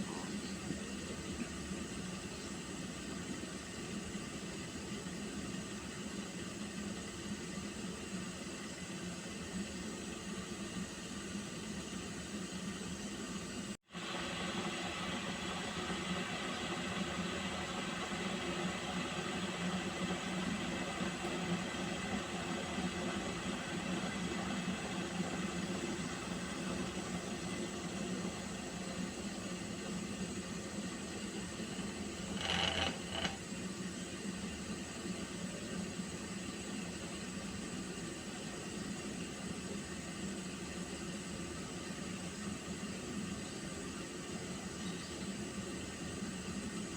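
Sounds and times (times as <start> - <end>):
water heating with hiss: 0.0 - 46.9.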